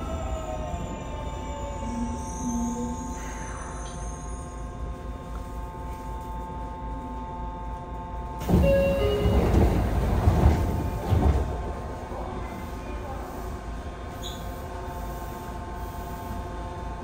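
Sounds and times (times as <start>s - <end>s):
subway car hum: 0.0s - 17.0s.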